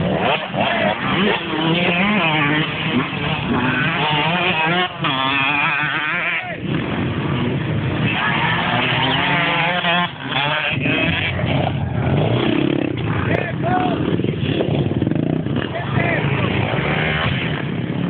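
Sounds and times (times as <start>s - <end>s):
dirt bike engines revving hard: 0.0s - 18.0s.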